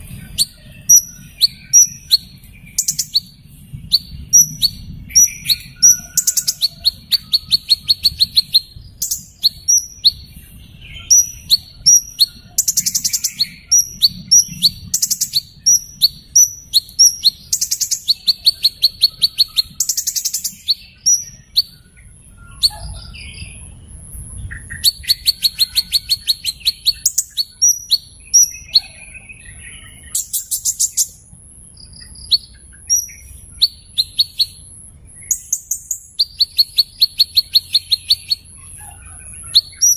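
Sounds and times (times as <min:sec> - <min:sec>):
small bird chirping and trilling: 0:00.0 - 0:39.9.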